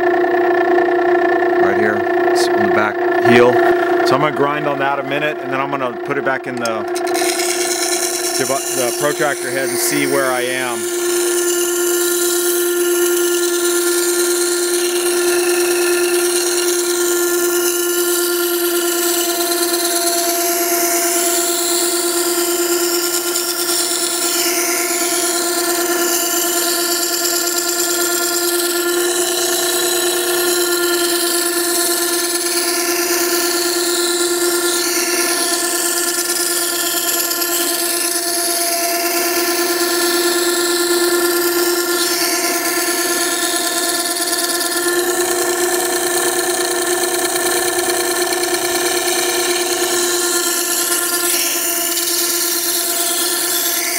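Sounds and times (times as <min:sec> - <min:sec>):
sharpener motor hum: 0:00.0 - 0:53.9
steel grinding on wet stone: 0:07.0 - 0:20.1, 0:21.3 - 0:53.8.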